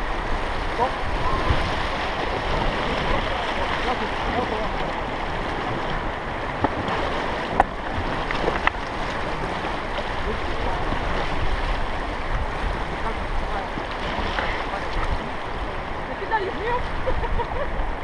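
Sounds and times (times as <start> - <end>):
river water rushing: 0.0 - 18.0
wind buffeting microphone: 0.0 - 18.0.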